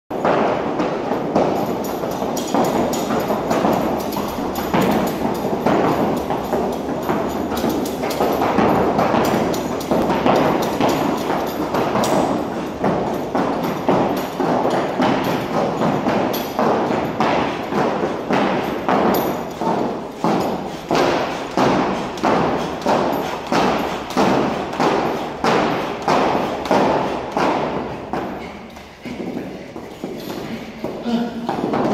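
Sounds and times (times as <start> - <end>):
battle ropes slapping floor: 0.1 - 31.9.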